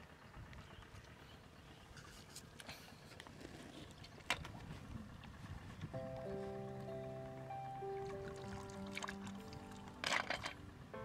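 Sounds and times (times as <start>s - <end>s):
faint low outdoor rumble: 0.0s - 11.0s.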